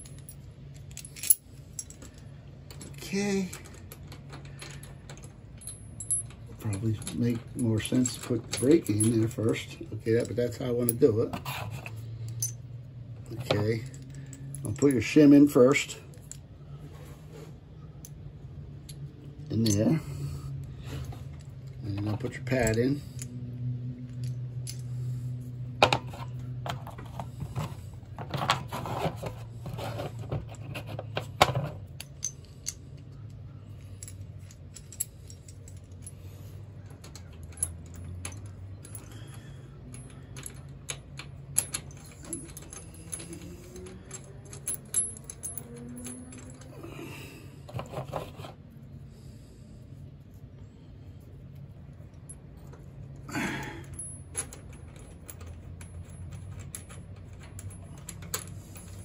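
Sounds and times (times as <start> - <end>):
small metal parts clinking: 0.0 - 59.0.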